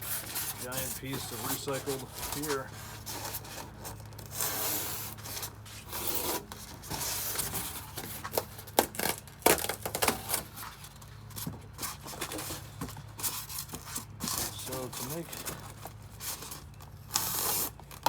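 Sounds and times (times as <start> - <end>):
styrofoam scraping in cardboard box: 0.0 - 18.0.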